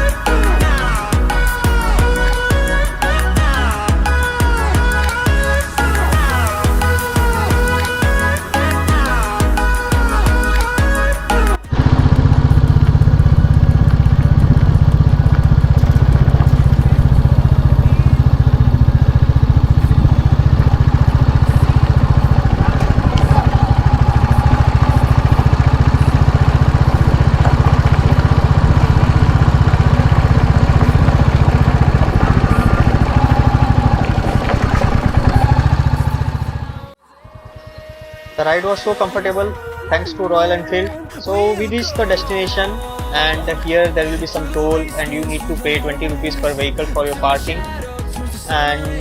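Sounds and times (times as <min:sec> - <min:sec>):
motorcycle engine running: 0:00.0 - 0:49.0
music: 0:00.0 - 0:49.0.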